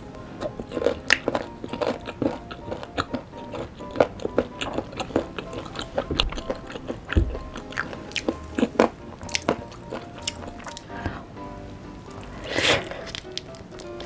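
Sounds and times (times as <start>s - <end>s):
chewing crunchy chicken: 0.4s - 11.2s, 12.2s - 14.0s.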